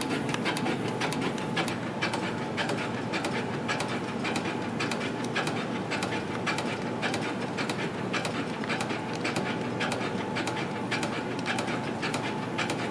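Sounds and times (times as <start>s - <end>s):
machine whirring: 0.0s - 12.9s.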